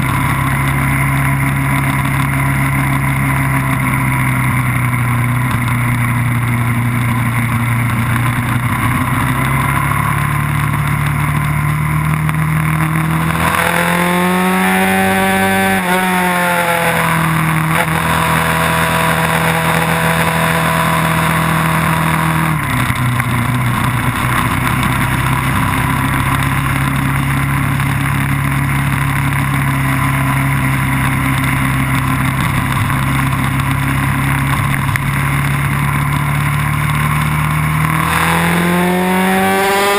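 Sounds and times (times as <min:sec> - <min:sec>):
racing car engine running hard: 0:00.0 - 0:39.9
wind and road noise: 0:00.0 - 0:39.9.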